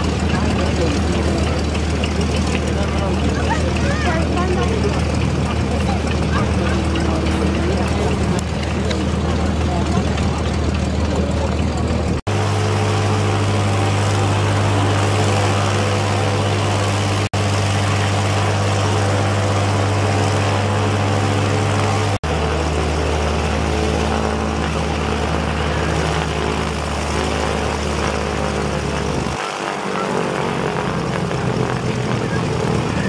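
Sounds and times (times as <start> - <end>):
propeller beat: 0.0 - 33.0
twin piston engines running: 0.0 - 33.0.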